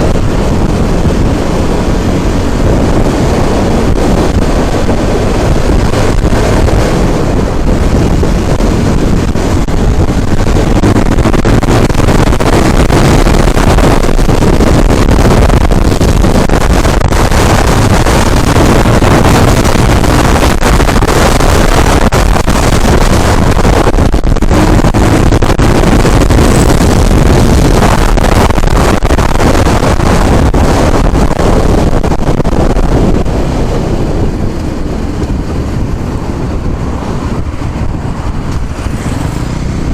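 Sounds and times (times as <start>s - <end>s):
moving vehicle rumbling: 0.0s - 39.9s
wind buffeting microphone: 0.0s - 39.9s.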